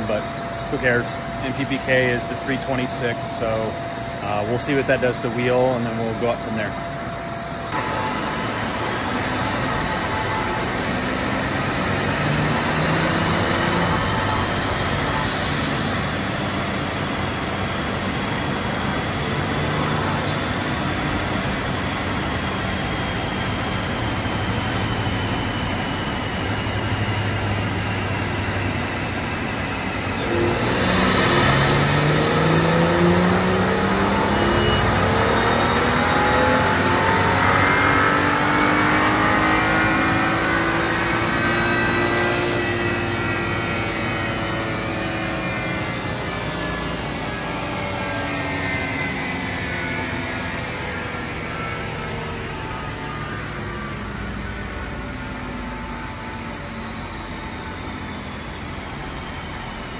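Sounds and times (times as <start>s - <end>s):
car engine revving on a dyno: 0.0s - 59.9s.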